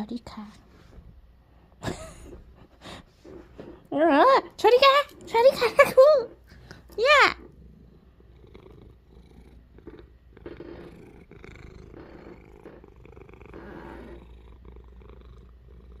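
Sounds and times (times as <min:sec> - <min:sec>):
cat purring: 0:00.2 - 0:16.0.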